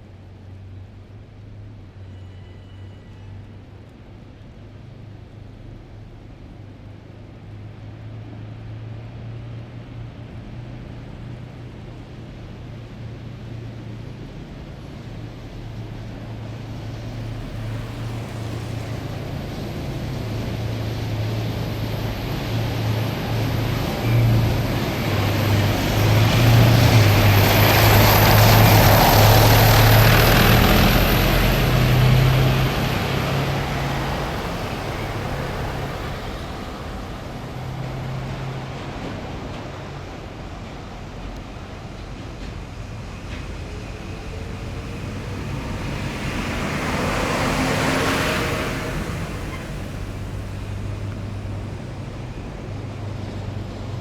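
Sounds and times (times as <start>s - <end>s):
road noise: 0.0s - 54.0s
heavy vehicles driving past: 5.4s - 54.0s.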